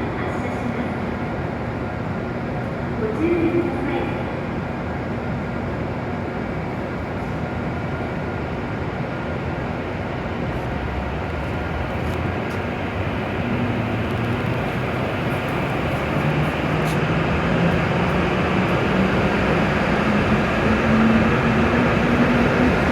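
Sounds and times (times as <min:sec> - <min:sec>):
train low running noise: 0:00.0 - 0:22.9.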